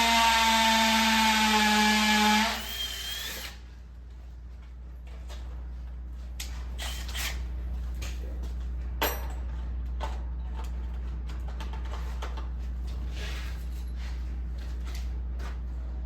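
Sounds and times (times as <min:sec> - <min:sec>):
steady low hum: 0:03.0 - 0:16.0.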